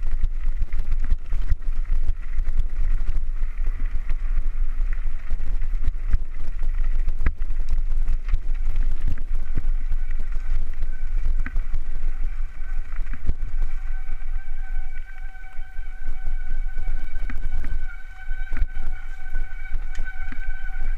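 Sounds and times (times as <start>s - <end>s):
bike tyres rumbling on gravel: 0.0s - 20.9s
thin steady whine: 0.0s - 20.9s.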